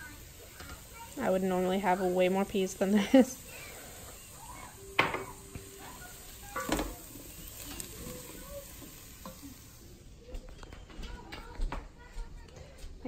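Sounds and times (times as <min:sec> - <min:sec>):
wooden spoon stirring vegetables: 0:00.0 - 0:11.5
light sizzle: 0:00.0 - 0:12.9.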